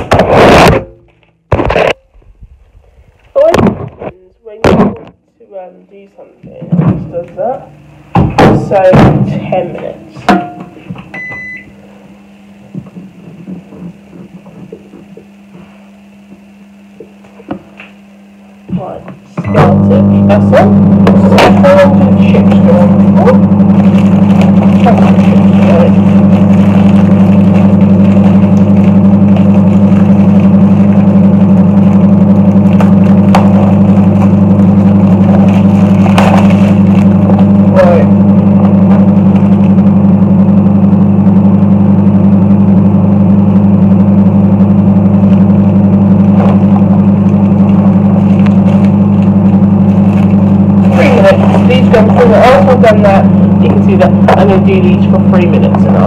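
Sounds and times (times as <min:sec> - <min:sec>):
microwave oven humming: 0:00.0 - 0:56.0.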